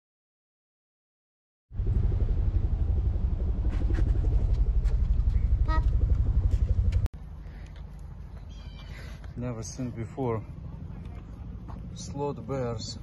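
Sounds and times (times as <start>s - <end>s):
loud low fluttering rumble: 1.7s - 13.0s.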